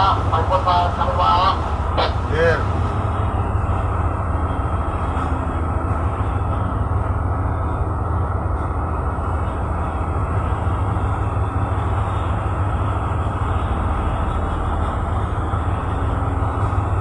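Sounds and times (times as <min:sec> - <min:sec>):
boat diesel engine drone: 0:00.0 - 0:17.0.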